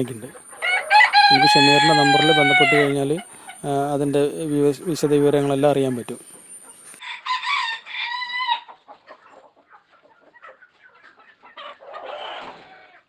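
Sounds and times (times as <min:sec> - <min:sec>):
chicken drawn-out call: 0:00.0 - 0:03.7, 0:04.5 - 0:13.0
chickens clucking: 0:00.0 - 0:13.0.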